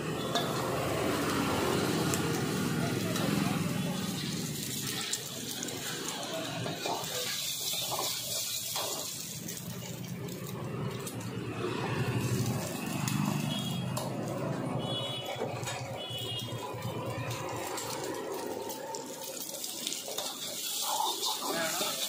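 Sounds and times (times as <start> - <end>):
eggs sizzling in hot oil: 0.0 - 22.0.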